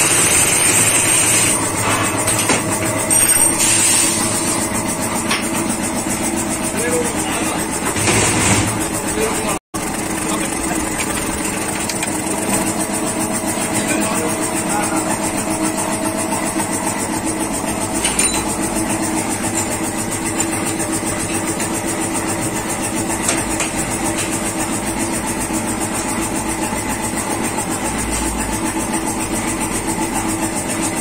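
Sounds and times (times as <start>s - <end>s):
motor humming: 0.0s - 29.9s.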